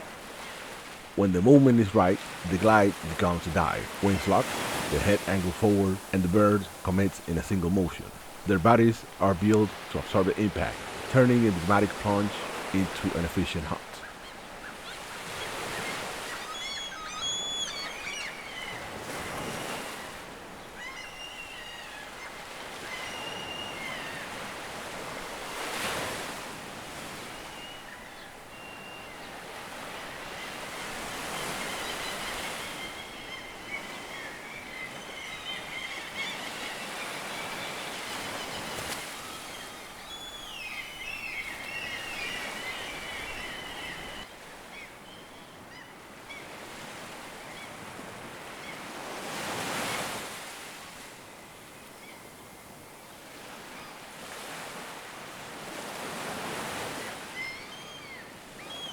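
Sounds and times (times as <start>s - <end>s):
surf washing on shore: 0.0s - 44.9s, 45.6s - 52.1s, 52.7s - 58.9s
birds chirping: 0.4s - 50.0s, 56.1s - 58.9s.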